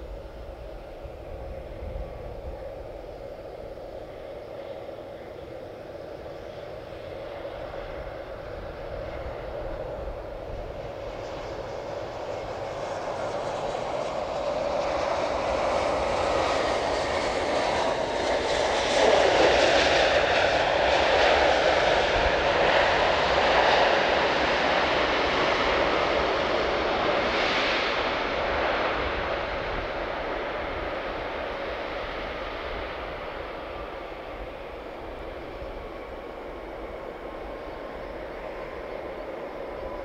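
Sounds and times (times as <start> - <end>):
jet engine roar: 0.0 - 40.0.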